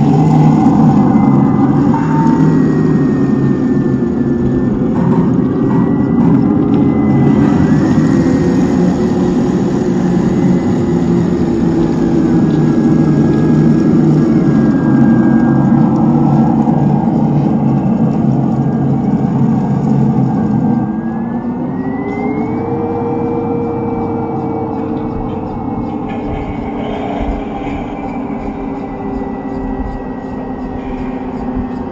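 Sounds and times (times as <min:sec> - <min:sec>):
toy tank mechanical drone and whine: 0:00.0 - 0:31.9.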